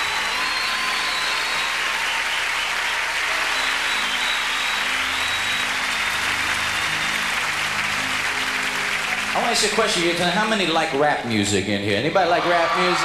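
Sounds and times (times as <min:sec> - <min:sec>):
audience applauding: 0:00.0 - 0:11.1, 0:12.2 - 0:13.0.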